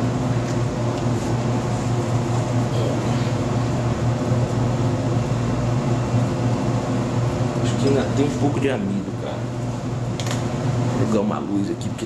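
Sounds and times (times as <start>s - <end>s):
low mechanical hum of machine: 0.0s - 12.0s.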